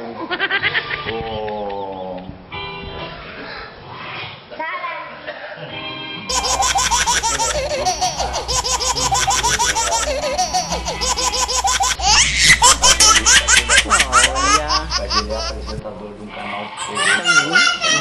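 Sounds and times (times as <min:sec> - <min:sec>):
rhythmic laughter: 0:00.0 - 0:02.4, 0:05.5 - 0:18.0.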